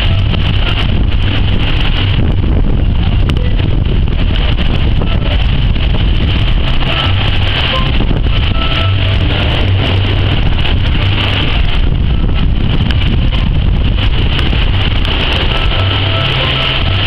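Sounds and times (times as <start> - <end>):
hurricane wind buffeting microphone: 0.0 - 17.0.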